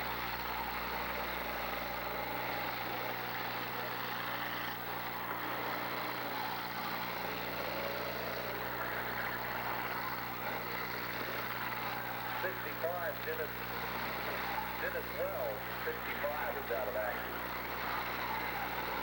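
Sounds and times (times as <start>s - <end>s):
many car engines running: 0.0s - 19.0s.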